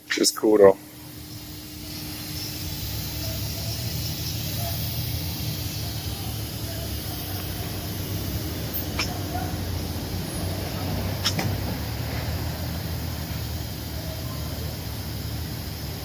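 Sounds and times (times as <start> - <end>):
low mechanical rumble with hiss: 0.0 - 16.0.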